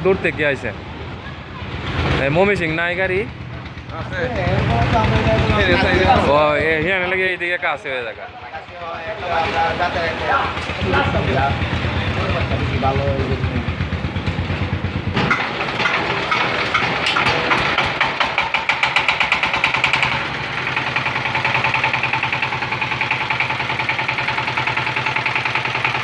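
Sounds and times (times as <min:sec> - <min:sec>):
single-cylinder diesel engine running: 0:00.0 - 0:26.0.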